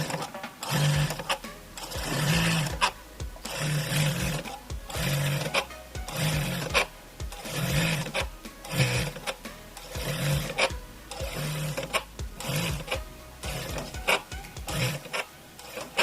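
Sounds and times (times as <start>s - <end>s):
sewing machine running: 0.0s - 16.0s.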